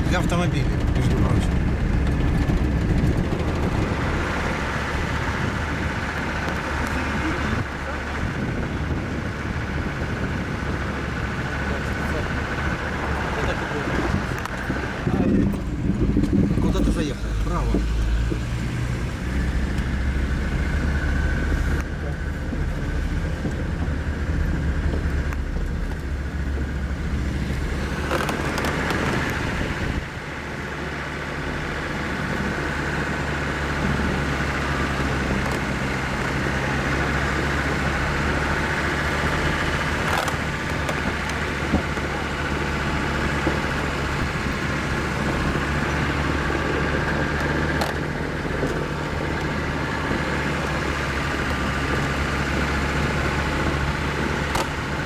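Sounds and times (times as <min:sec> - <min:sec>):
suv engine running: 0:00.0 - 0:55.0.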